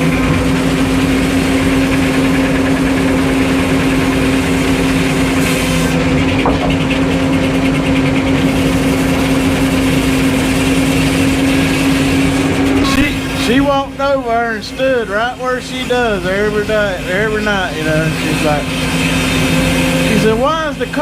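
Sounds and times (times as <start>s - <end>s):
sawmill engine humming: 0.0s - 21.0s.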